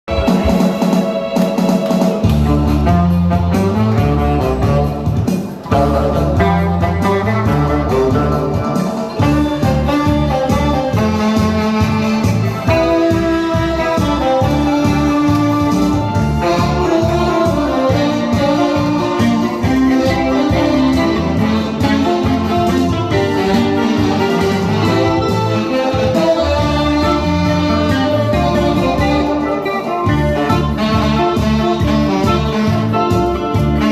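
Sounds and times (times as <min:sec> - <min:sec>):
backing track with bass and guitar: 0:00.1 - 0:33.9
tenor saxophone melody: 0:00.1 - 0:33.9.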